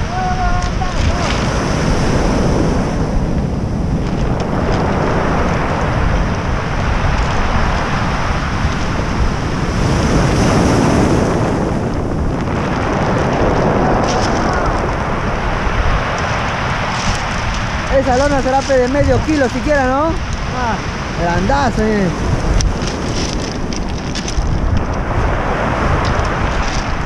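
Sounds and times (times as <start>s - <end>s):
surf washing on pebble beach: 0.0s - 27.0s
wind buffeting microphone: 0.0s - 27.0s.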